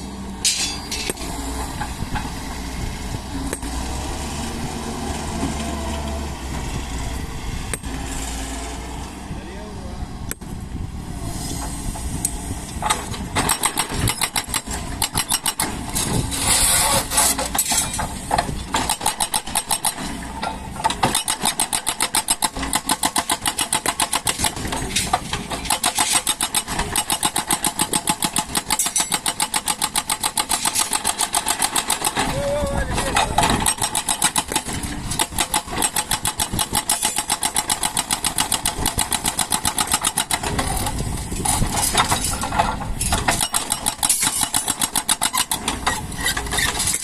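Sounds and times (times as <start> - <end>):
excavator diesel engine: 0.0 - 47.0.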